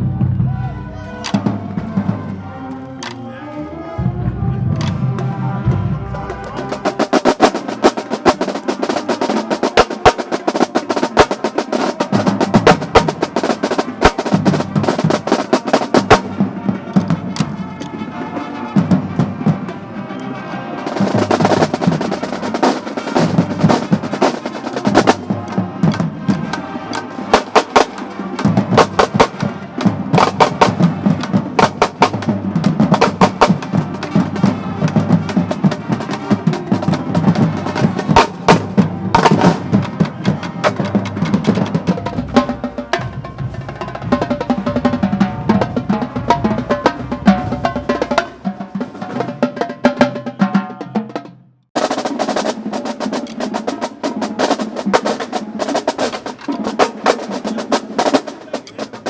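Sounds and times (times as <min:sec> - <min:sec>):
snare drum strokes and rolls: 0:01.2 - 0:02.4, 0:04.6 - 0:18.0, 0:18.7 - 0:19.8, 0:20.8 - 0:59.0.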